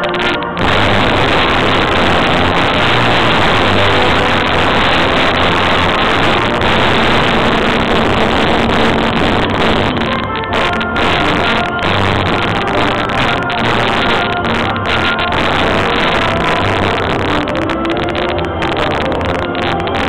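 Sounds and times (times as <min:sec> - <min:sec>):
loud harsh distorted noise: 0:00.0 - 0:20.0
music: 0:00.0 - 0:20.0.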